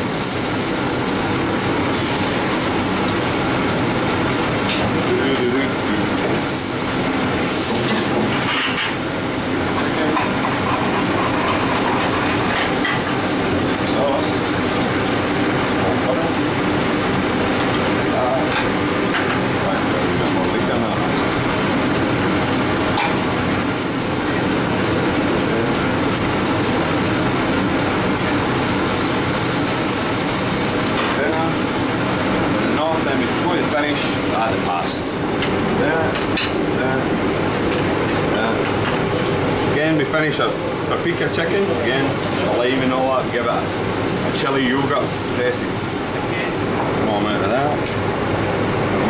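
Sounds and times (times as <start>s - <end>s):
commercial kitchen noise: 0.0s - 49.0s.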